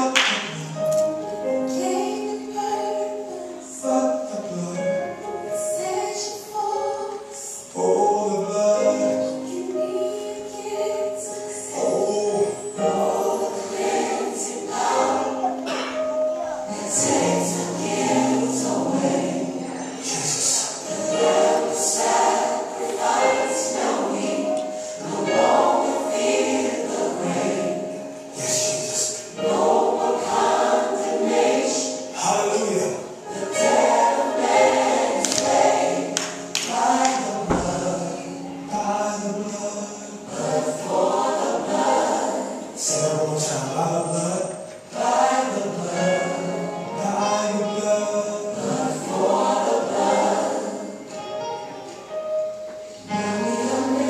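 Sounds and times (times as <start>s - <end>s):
gospel choir singing held notes: 0.0s - 54.0s.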